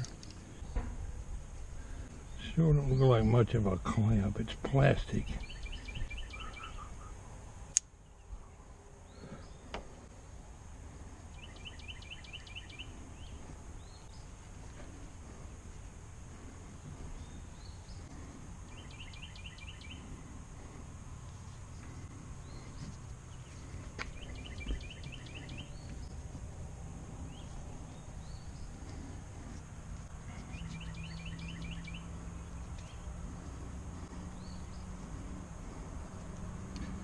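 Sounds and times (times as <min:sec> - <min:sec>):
songbird singing: 0:00.0 - 0:37.0.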